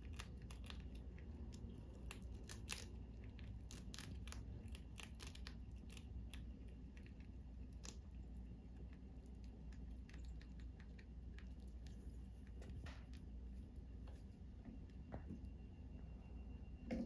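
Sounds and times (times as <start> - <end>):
low steady hum: 0.0 - 17.0
rats nibbling and chewing food: 0.0 - 17.0.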